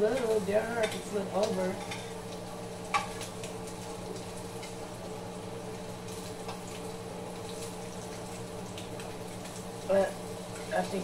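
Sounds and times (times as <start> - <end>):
faint crackles: 0.0 - 11.0
pancakes sizzling in frying pan: 0.0 - 11.0.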